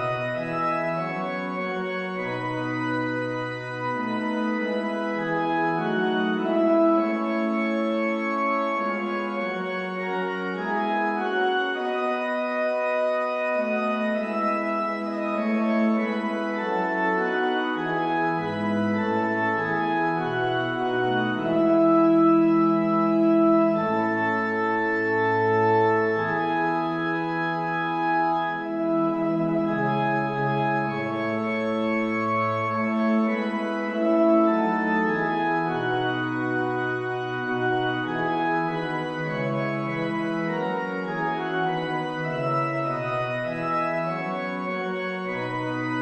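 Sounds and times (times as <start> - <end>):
organ playing slow chords: 0.0 - 46.0.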